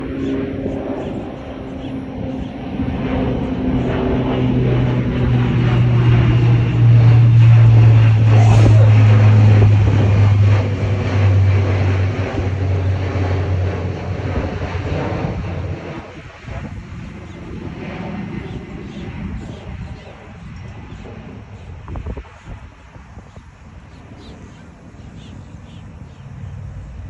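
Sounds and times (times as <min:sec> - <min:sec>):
loud low propeller drone: 0:00.0 - 0:27.0.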